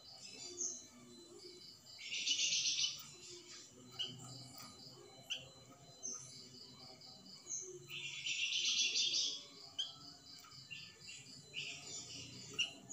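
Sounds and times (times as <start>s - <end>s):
songbird chirping and singing: 0.0s - 12.9s.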